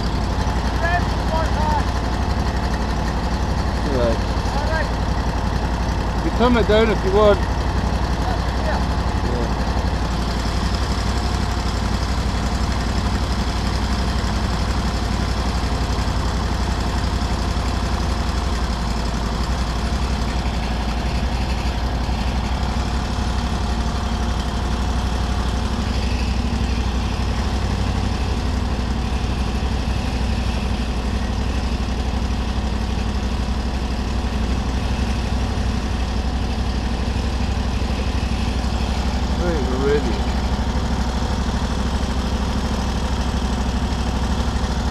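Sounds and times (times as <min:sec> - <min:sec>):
buggy engine idling: 0:00.0 - 0:44.9.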